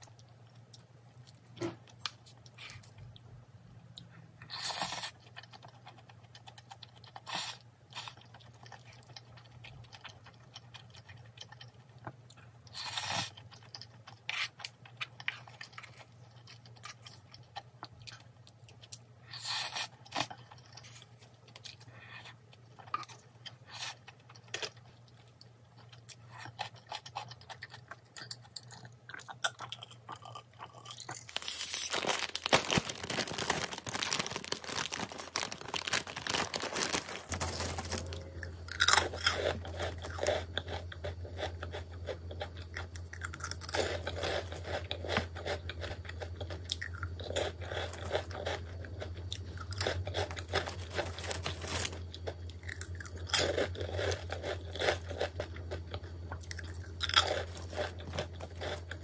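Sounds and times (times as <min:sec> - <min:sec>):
crunchy food chewing: 0:04.0 - 0:59.0.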